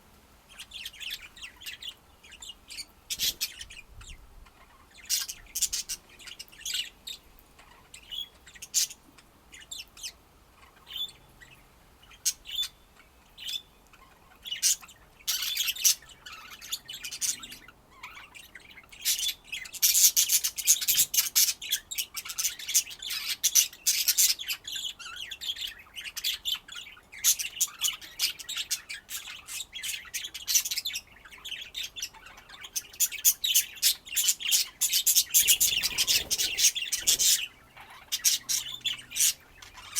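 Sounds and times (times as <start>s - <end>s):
budgerigars chirping and chattering: 0.5s - 39.9s.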